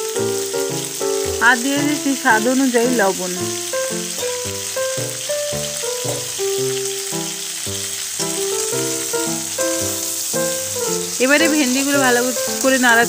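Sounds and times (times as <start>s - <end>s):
background music melody: 0.0s - 13.0s
vegetables sizzling in oil: 0.0s - 13.0s.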